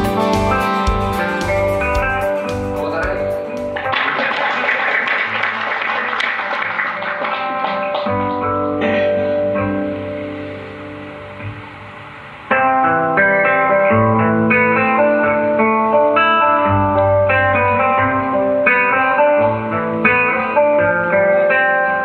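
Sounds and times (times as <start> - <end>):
acoustic guitar picking: 0.0 - 4.2, 6.6 - 22.0.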